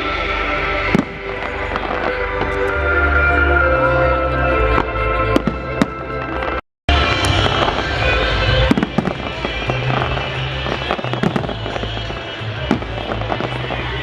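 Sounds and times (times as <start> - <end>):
fireworks bangs and crackling: 0.0 - 3.4, 4.7 - 14.0
music: 0.0 - 14.0.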